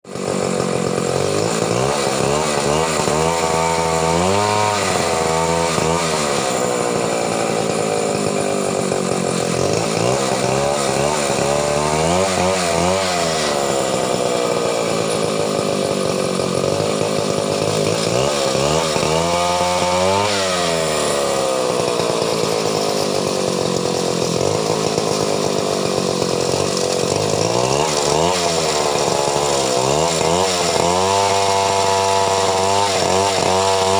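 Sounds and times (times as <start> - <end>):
chainsaw revving: 0.0 - 33.9.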